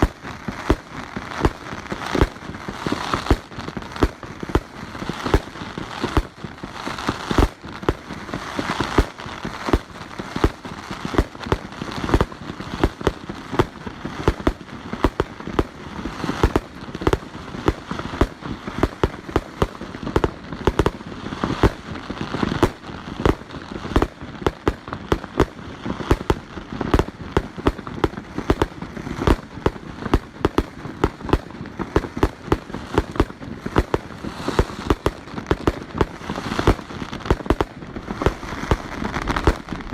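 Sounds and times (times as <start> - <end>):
continuous firework crackle: 0.0 - 39.9.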